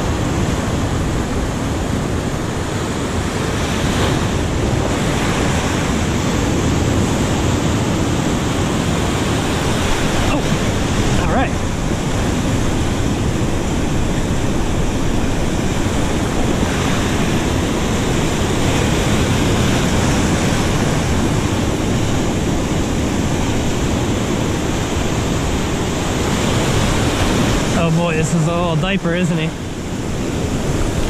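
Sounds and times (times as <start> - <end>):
surf breaking over rocks: 0.0 - 31.0.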